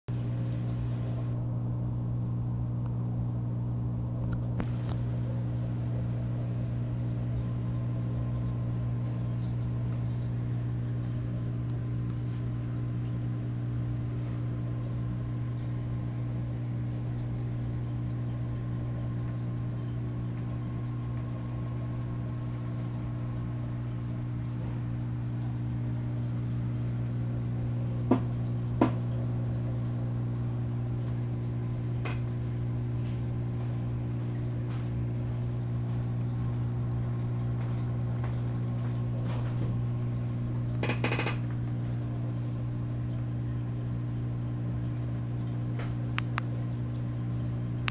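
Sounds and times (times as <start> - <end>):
aquarium equipment humming: 0.1 - 47.9.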